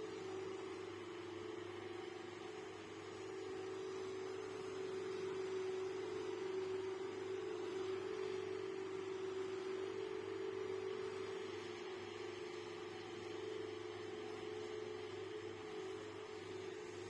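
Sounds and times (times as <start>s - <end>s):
steady hum with faint hiss: 0.0s - 17.0s.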